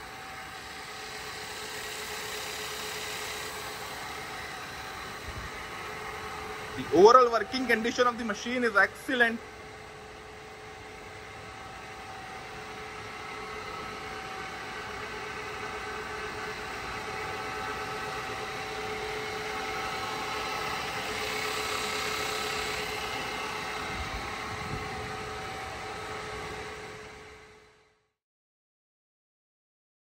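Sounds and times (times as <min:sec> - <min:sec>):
milling machine humming: 0:00.0 - 0:27.7.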